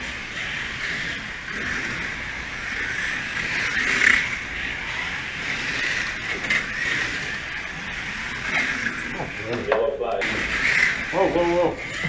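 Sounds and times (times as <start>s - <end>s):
rc cars whirring motors: 0.0s - 12.0s.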